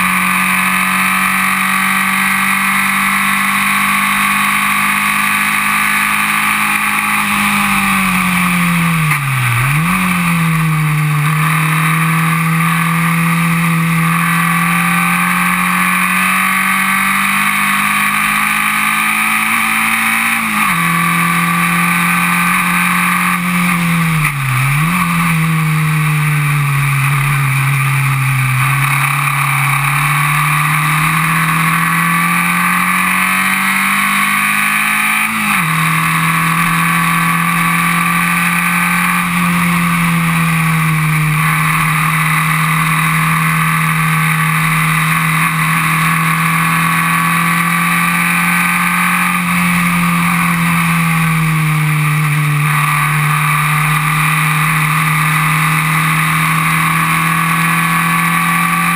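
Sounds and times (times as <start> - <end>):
race car engine at high revs: 0.0 - 58.9.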